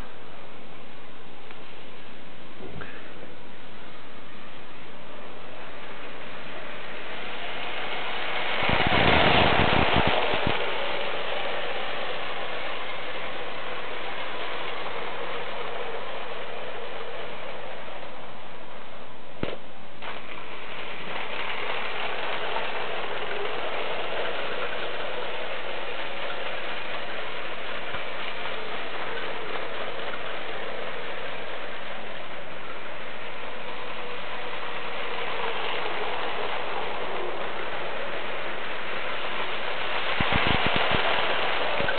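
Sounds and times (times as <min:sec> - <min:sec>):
toy train motors whirring: 0:05.0 - 0:41.9.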